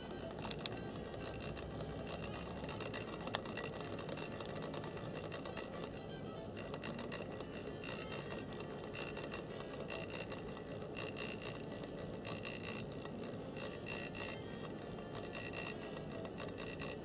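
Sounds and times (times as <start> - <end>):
model locomotive motor whirring: 0.0 - 17.0
ratcheting gear chatter: 0.0 - 17.0.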